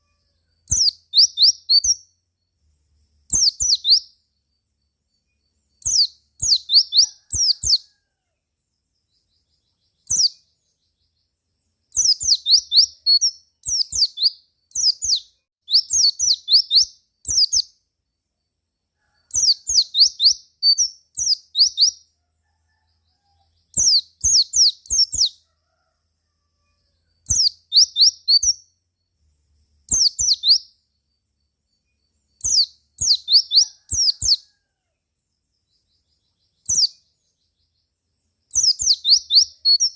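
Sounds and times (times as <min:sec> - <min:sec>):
bird singing high chirps: 0:00.0 - 0:08.0, 0:08.9 - 0:25.5, 0:26.8 - 0:34.6, 0:35.6 - 0:39.9.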